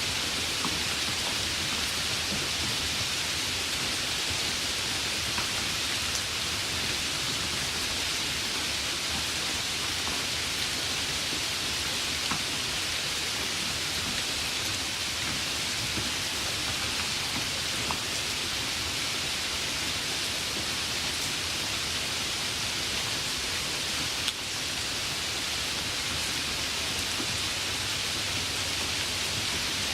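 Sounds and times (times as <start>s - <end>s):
light rain hiss: 0.0s - 29.9s.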